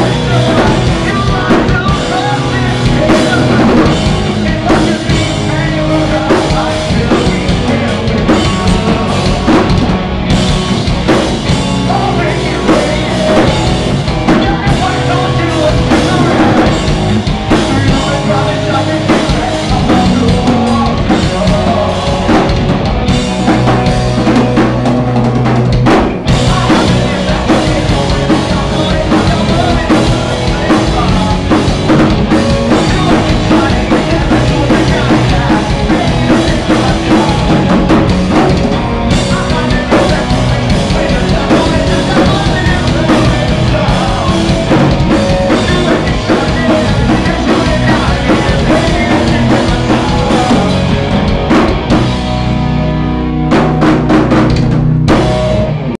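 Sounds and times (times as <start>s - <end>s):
pounding drum kit: 0.0s - 56.0s
rock band playing: 0.0s - 56.0s.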